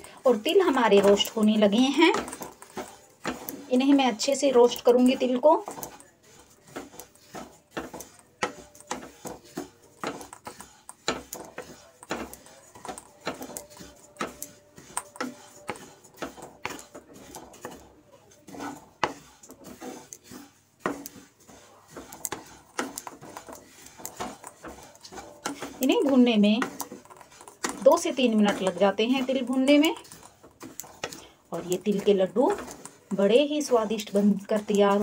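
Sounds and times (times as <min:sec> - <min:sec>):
spatula scraping a pan: 0:00.0 - 0:35.0.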